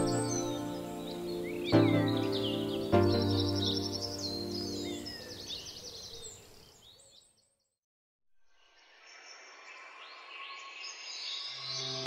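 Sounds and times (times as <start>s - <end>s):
small birds chirping and singing: 0.0s - 7.7s, 8.8s - 12.0s.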